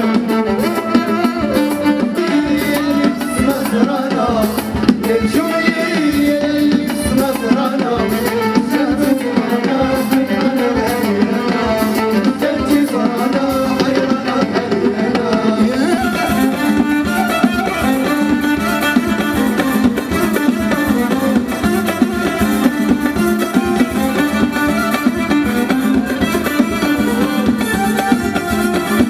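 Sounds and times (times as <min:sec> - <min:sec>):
live band playing amplified music: 0:00.0 - 0:29.0.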